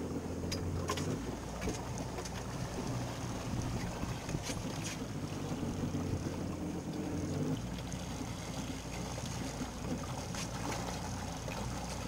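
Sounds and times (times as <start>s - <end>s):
boat engine running: 0.0s - 12.0s
water noise: 0.0s - 12.0s.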